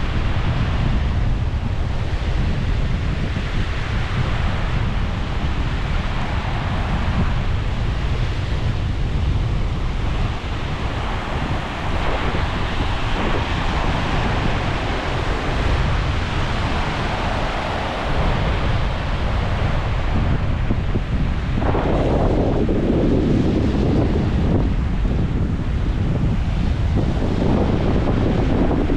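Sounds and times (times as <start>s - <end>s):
surf washing on shore: 0.0s - 28.9s
wind buffeting microphone: 0.0s - 28.9s.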